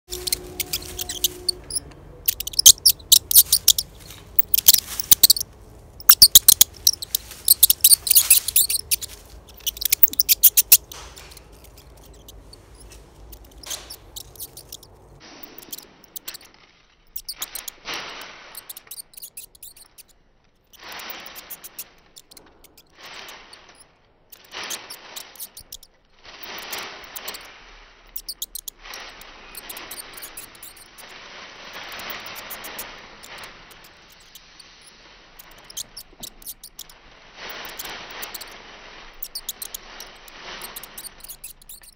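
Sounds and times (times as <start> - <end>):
rat squeaking: 0.0 - 16.5, 17.1 - 41.9.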